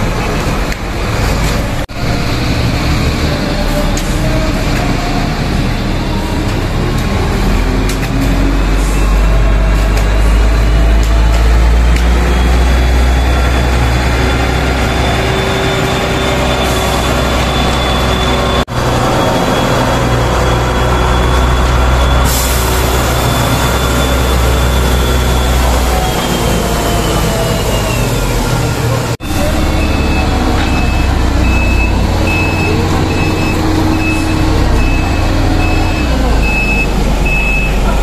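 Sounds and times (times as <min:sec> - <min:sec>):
diesel engine revving: 0:00.0 - 0:38.0.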